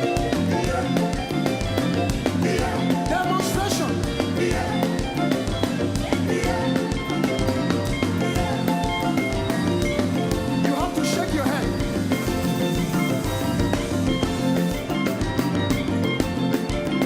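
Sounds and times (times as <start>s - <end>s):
upbeat gospel praise music: 0.0s - 17.0s.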